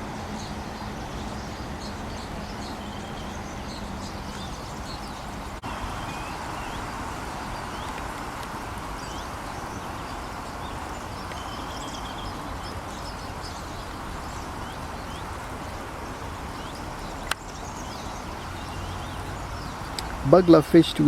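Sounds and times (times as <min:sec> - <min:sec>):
small birds chirping: 0:00.0 - 0:21.0
stream water rushing: 0:00.0 - 0:21.0.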